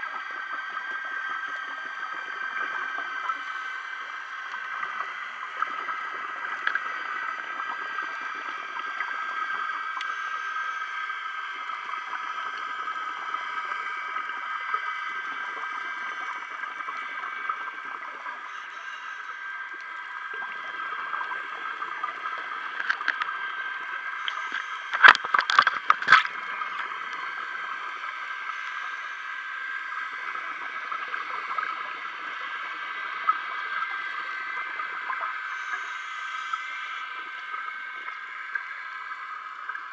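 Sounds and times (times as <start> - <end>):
muffled underwater hiss: 0.0 - 39.9.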